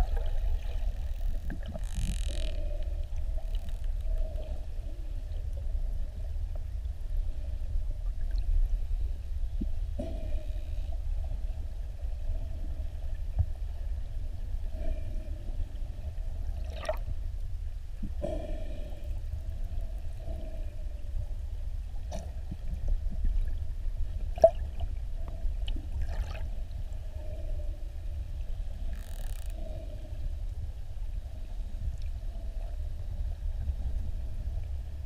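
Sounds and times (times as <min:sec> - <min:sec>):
low rumble of water: 0:00.0 - 0:35.0.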